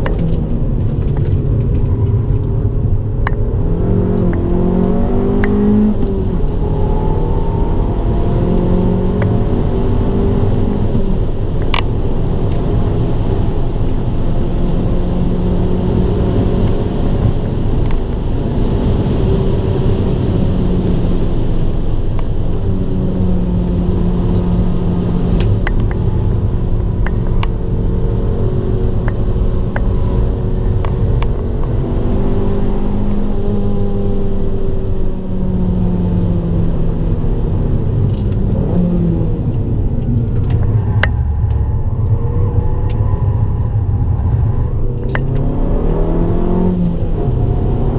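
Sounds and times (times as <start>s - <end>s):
car engine accelerating: 0.0s - 47.9s
road and wind noise: 0.0s - 47.9s.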